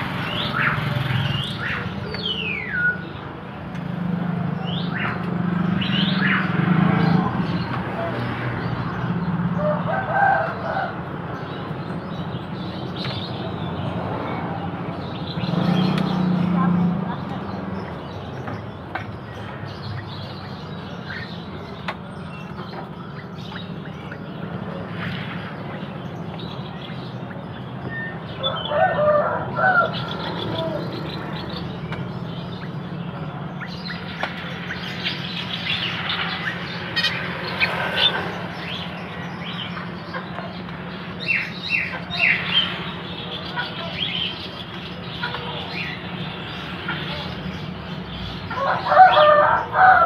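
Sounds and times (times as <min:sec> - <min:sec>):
background murmur: 0:00.0 - 0:50.0
songbirds chirping: 0:00.0 - 0:50.0.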